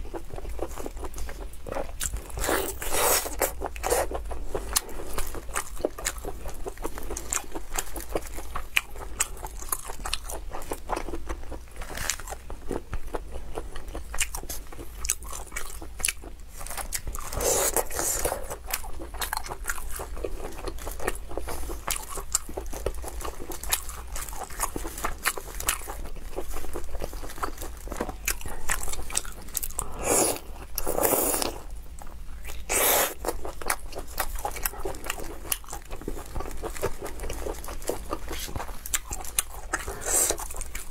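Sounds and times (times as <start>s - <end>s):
biting and chewing sausages: 0.0s - 40.9s.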